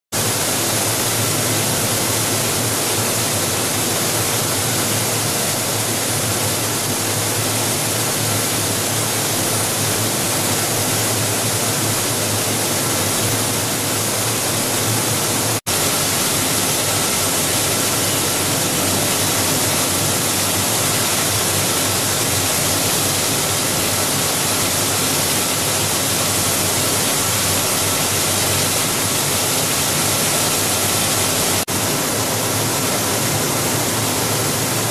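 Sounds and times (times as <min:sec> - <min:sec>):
plastic pelletizing line running: 0:00.2 - 0:34.9.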